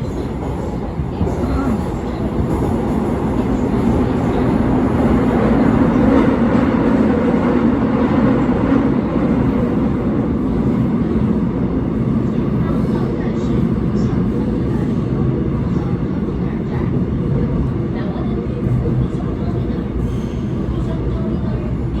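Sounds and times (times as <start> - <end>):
subway train rumbling: 0.0 - 22.0.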